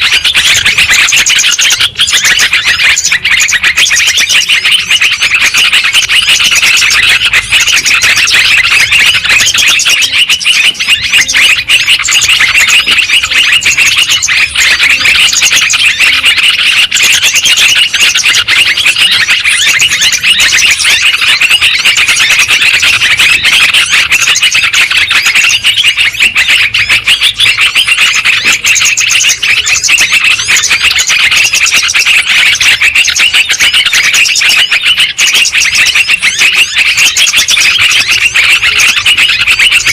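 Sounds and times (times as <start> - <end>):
bulbuls chattering chirps: 0.0 - 39.9.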